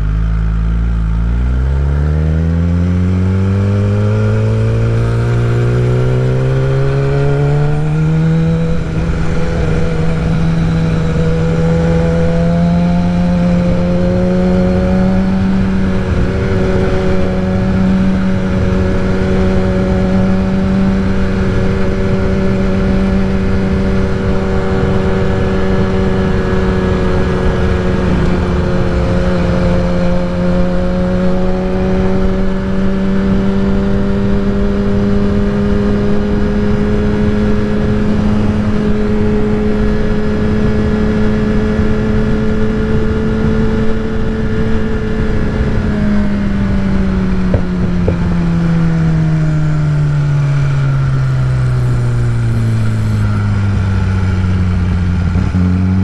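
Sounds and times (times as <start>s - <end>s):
motorcycle engine cruising: 0.0s - 56.0s
wind noise on microphone: 1.0s - 56.0s.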